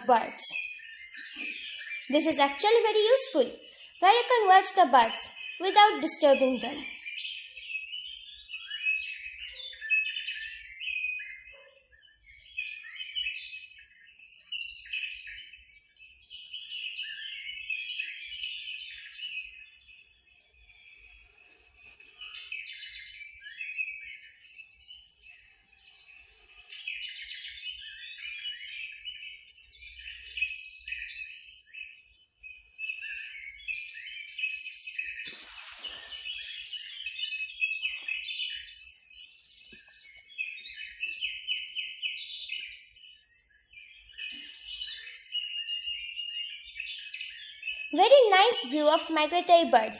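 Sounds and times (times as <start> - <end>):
birds chirping and twittering: 0.0 - 49.9.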